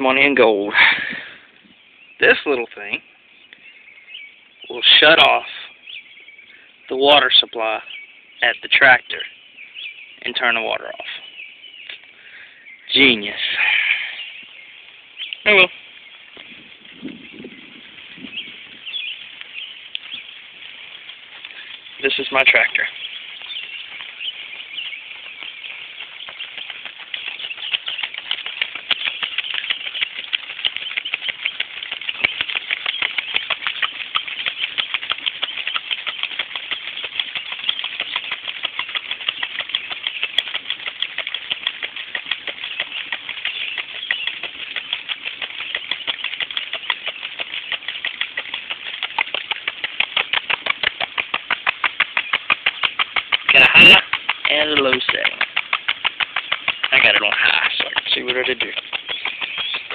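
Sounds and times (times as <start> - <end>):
sprinkler water patter: 0.0 - 1.5, 2.2 - 59.9.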